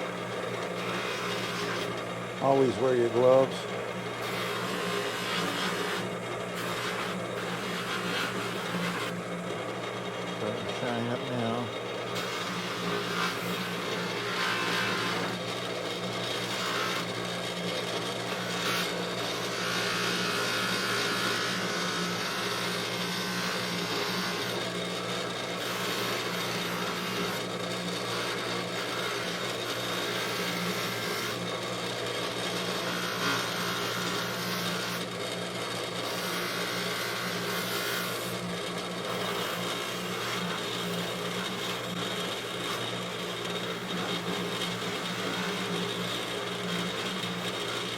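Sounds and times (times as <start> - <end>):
bench buffer motor humming: 0.0 - 47.9.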